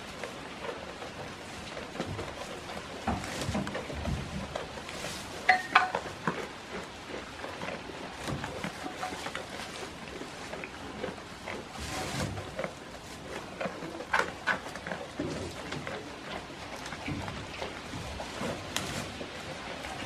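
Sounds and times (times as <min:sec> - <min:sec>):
goats chewing hay: 0:00.0 - 0:20.0.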